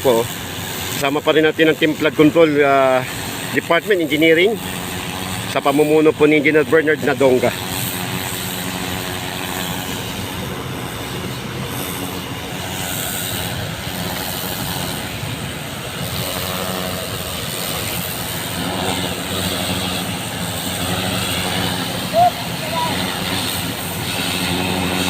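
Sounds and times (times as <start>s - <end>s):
pump engine hum: 0.0s - 25.0s
water jetting onto paving: 0.0s - 25.0s.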